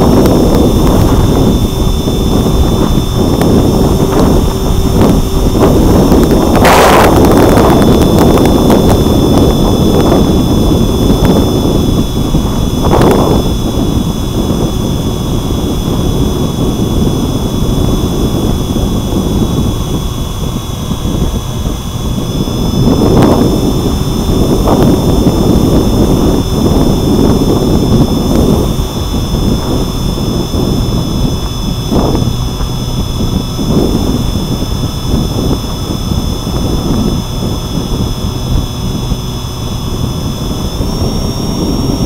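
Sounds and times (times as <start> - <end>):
electric motor and propeller whine: 0.0 - 42.0
wind buffeting microphone: 0.0 - 42.0.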